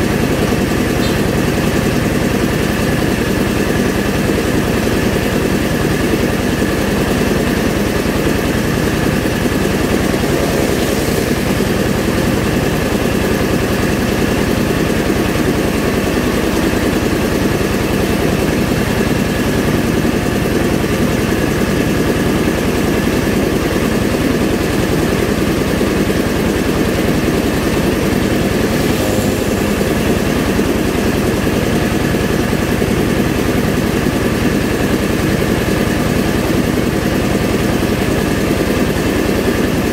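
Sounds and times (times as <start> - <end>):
rice milling machine running: 0.0 - 39.9.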